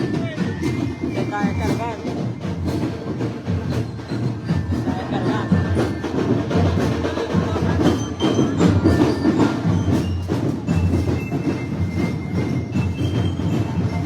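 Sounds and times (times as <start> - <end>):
dense parade drumming: 0.0 - 14.0.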